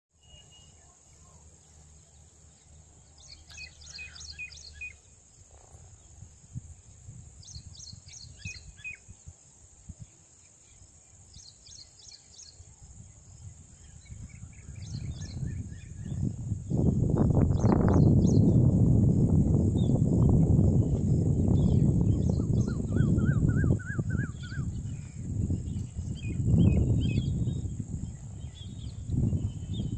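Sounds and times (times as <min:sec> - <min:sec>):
birds chirping: 0:00.2 - 0:05.4, 0:10.0 - 0:29.9.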